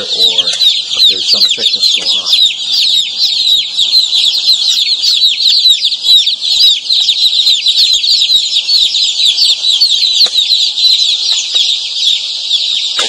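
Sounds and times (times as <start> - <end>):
chicks chirping: 0.0 - 13.0.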